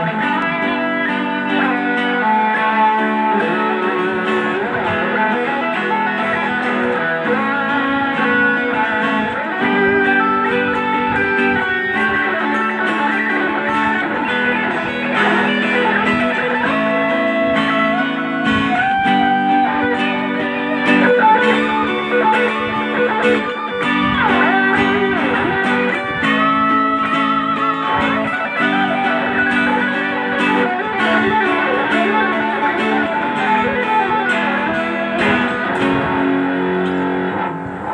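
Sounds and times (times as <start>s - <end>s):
electric guitar chords: 0.0s - 37.9s
lead electric guitar solo: 0.0s - 37.9s.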